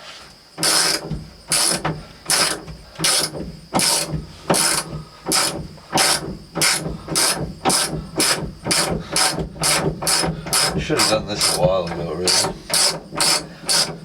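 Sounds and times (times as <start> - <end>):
ratchet wrench clicking: 0.6 - 14.0.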